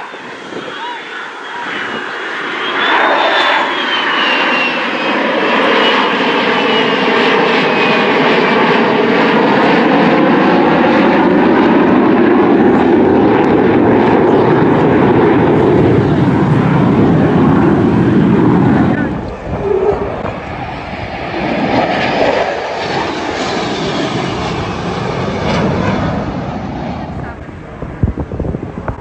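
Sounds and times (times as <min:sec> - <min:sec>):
high jet whine: 0:00.0 - 0:29.0
loud steady engine roar: 0:00.0 - 0:29.0.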